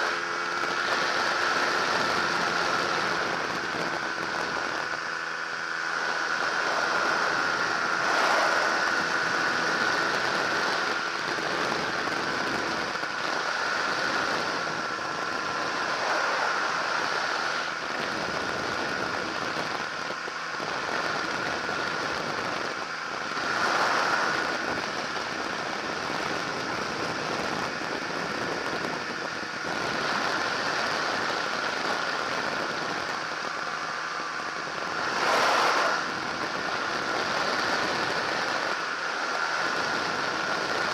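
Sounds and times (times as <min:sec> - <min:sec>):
aircraft engine and propeller droning: 0:00.0 - 0:40.9
wind rush on microphone: 0:00.0 - 0:40.9.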